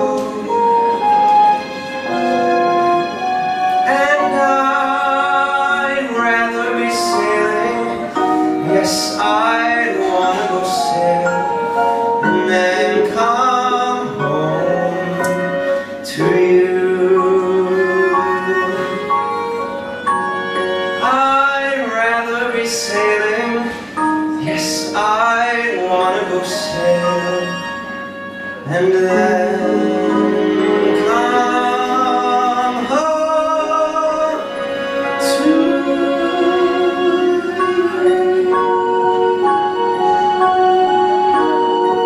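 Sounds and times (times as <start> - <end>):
man singing into microphone: 0.0 - 1.0, 3.8 - 19.4, 21.0 - 27.9, 28.5 - 42.0
instrumental accompaniment: 0.0 - 42.0.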